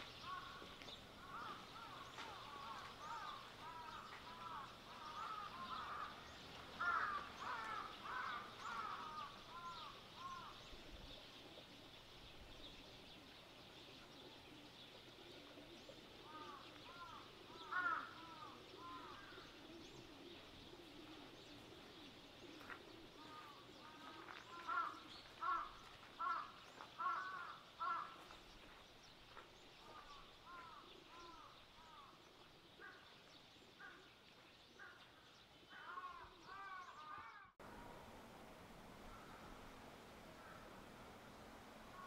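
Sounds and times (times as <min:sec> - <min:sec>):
birds calling: 0:00.0 - 0:37.6
faint background hiss: 0:00.0 - 0:42.0.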